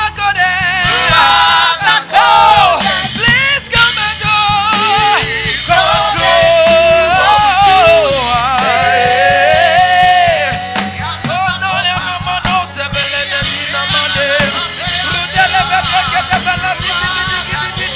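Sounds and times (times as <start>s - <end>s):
voices singing gospel: 0.0s - 17.9s
instrumental accompaniment: 0.1s - 17.9s.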